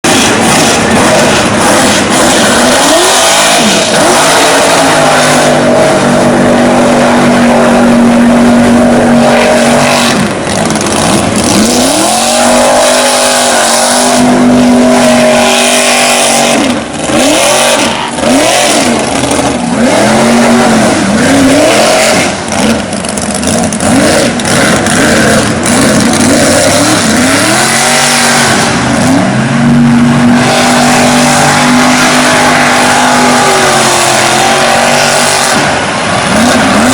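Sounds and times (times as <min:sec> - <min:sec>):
truck engine revving hard: 0:00.0 - 0:36.9.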